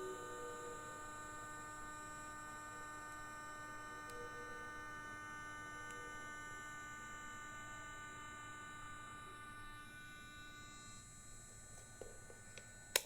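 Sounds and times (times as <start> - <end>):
model train motor whine: 0.0 - 13.0.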